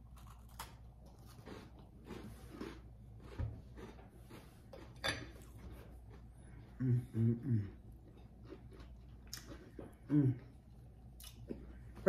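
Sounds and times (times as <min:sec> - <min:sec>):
cookies crunching: 0:00.0 - 0:07.0, 0:07.6 - 0:12.0.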